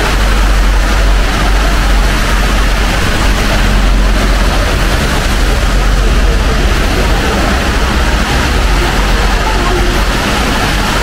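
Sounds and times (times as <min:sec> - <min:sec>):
heavy low rumble: 0:00.0 - 0:11.0
rain hissing: 0:00.0 - 0:11.0
traffic on wet roads: 0:00.0 - 0:11.0.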